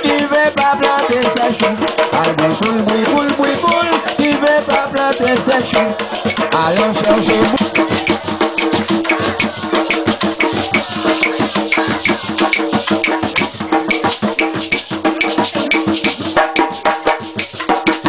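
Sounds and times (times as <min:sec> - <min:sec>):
hand drums: 0:00.0 - 0:18.0
shaker: 0:00.0 - 0:18.0.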